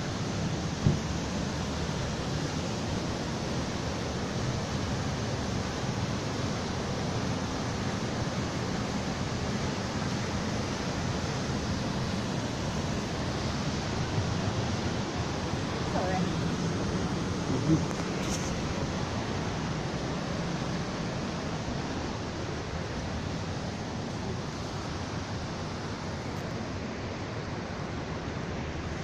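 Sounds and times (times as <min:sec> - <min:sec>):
whitewater rushing down waterfall: 0:00.0 - 0:29.0.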